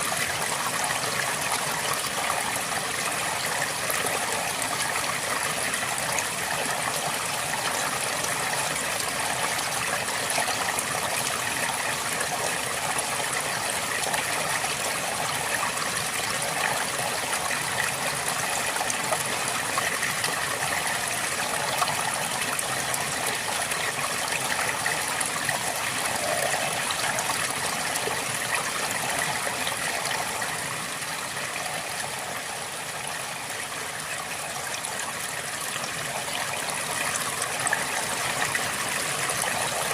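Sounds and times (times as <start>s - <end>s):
river water flowing and babbling: 0.0s - 39.9s.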